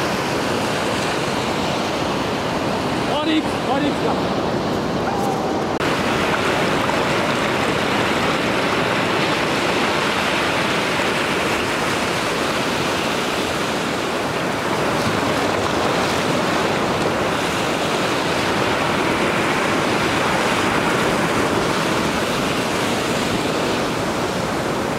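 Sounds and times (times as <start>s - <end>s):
waves washing over sand: 0.0s - 24.9s.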